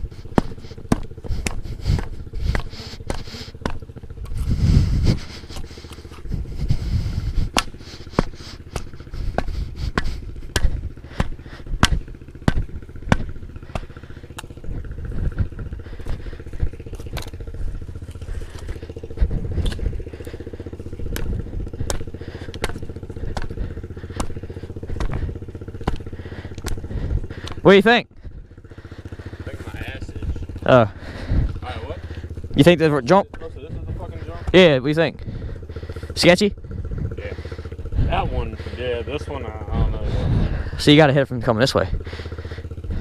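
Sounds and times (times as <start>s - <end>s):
low rumbling: 0.0s - 43.0s
pit bike engine running: 0.0s - 43.0s.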